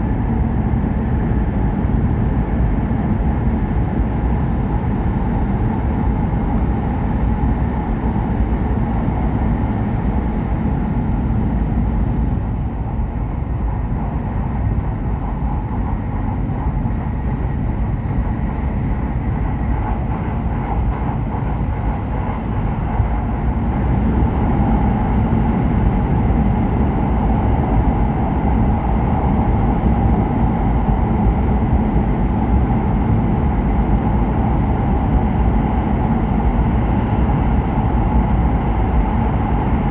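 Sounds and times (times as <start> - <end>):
train cabin rumble: 0.0 - 39.9.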